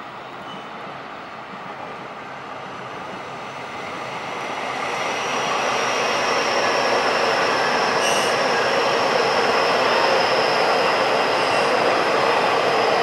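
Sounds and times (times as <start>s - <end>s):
train rumble and wheel noise: 0.0s - 13.0s.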